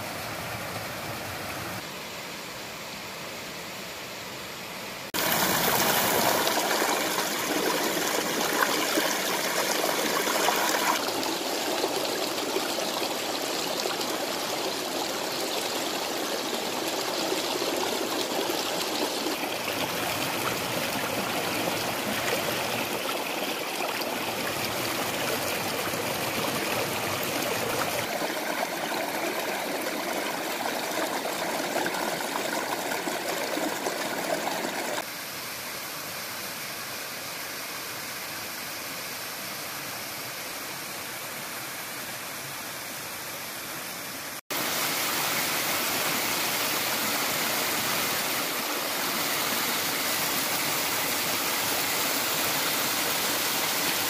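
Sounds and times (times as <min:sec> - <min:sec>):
stream running over rocks: 0:05.1 - 0:35.8, 0:41.0 - 0:54.0.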